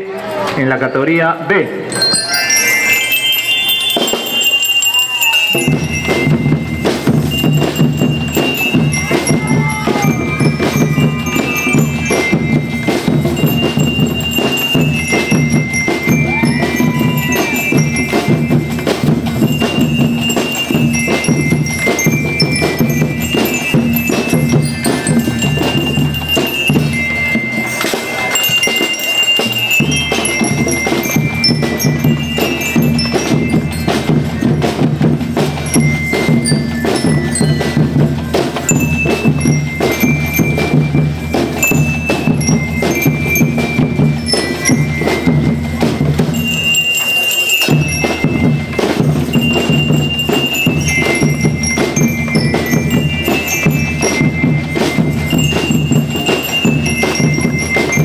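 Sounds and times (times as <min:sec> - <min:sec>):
drums and percussion: 0:00.0 - 0:58.0
bell lyres ringing melody: 0:00.9 - 0:58.0.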